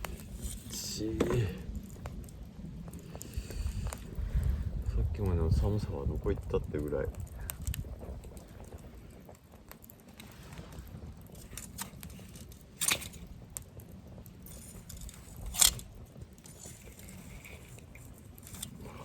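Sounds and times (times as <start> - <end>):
campfire crackling: 0.0 - 19.0
loud sharp pops of fire: 0.0 - 19.0.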